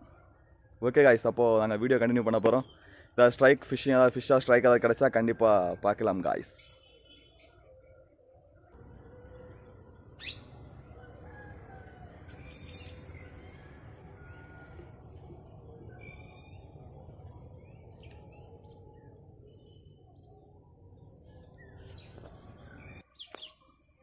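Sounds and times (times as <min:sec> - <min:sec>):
birds chirping and calling: 0:01.4 - 0:04.0, 0:05.3 - 0:20.4, 0:21.0 - 0:23.7.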